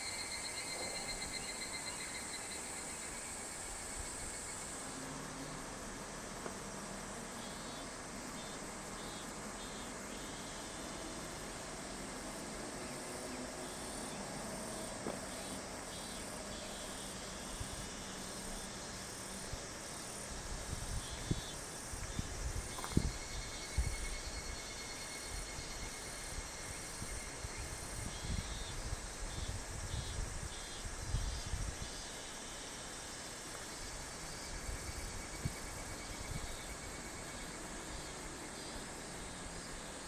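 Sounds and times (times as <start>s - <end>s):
cicadas and insects trilling: 0.0s - 40.0s
steady hiss: 0.0s - 40.0s.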